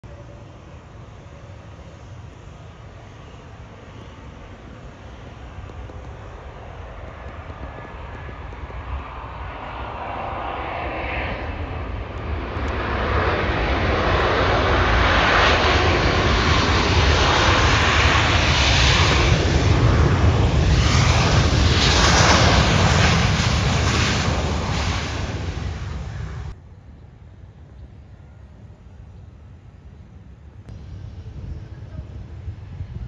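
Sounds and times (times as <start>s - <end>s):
jet engines roaring: 0.0s - 26.6s, 30.4s - 33.0s.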